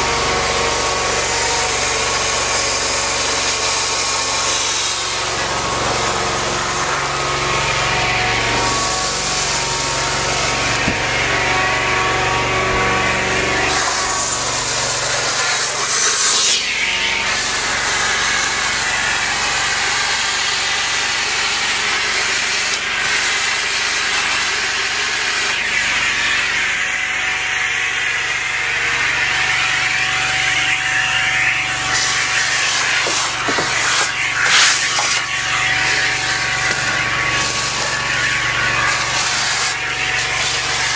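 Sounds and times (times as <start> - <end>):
vacuum engine running: 0.0 - 40.9.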